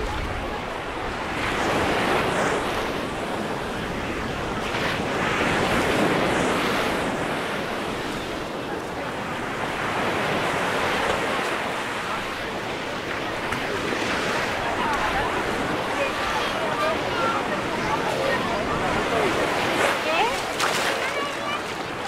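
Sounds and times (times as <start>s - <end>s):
waves washing onto beach: 0.0s - 22.0s.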